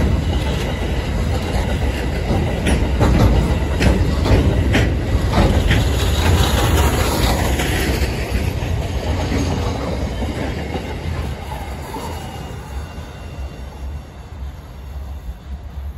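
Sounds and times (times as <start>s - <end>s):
freight train wagons rolling past: 0.0s - 15.9s
steel wheels clattering on rails: 0.0s - 15.9s.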